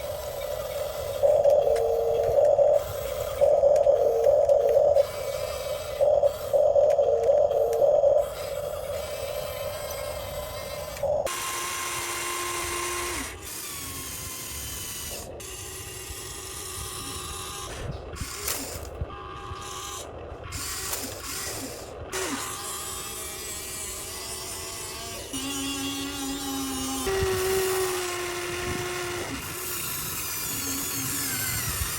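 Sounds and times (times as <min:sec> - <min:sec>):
electric motor whine: 0:00.0 - 0:20.0, 0:20.6 - 0:31.9.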